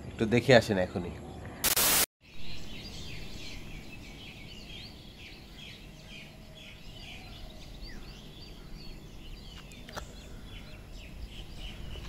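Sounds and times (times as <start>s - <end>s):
small birds chirping: 2.2s - 12.0s.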